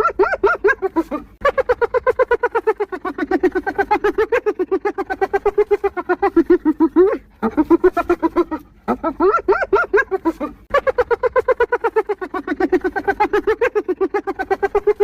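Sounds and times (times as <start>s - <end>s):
hyena giggling: 0.0s - 15.0s.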